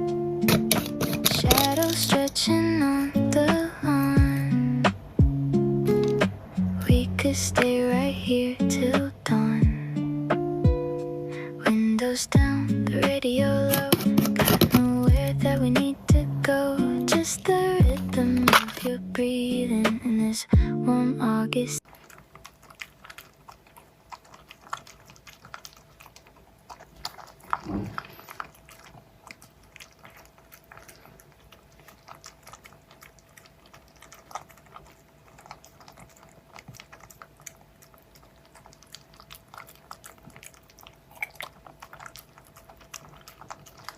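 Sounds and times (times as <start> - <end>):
dog crunching food: 0.4 - 4.3, 5.9 - 7.9, 12.0 - 19.3, 21.8 - 43.9.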